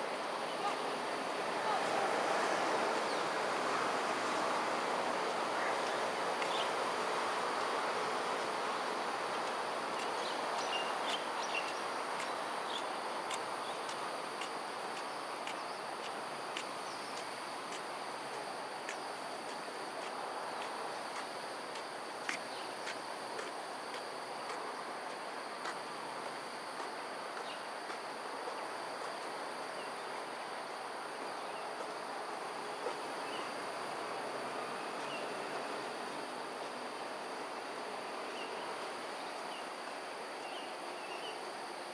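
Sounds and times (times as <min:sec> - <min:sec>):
broad rushing background noise: 0:00.0 - 0:41.9
insect drone: 0:00.0 - 0:41.9.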